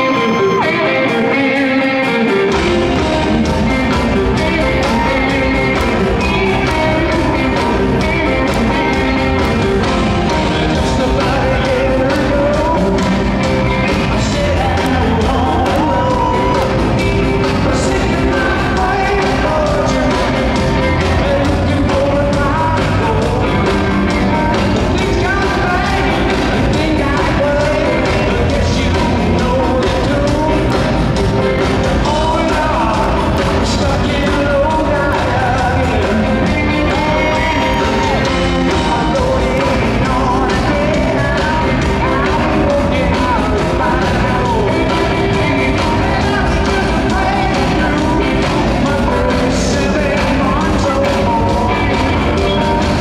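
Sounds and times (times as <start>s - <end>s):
bass and drums: 0.0s - 53.0s
electric guitars: 0.0s - 53.0s
live rock band playing: 0.0s - 53.0s.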